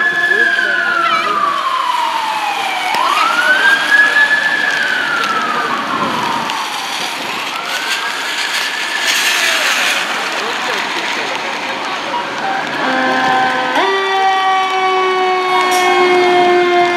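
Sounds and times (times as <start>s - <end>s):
fire truck siren wailing: 0.0s - 16.9s.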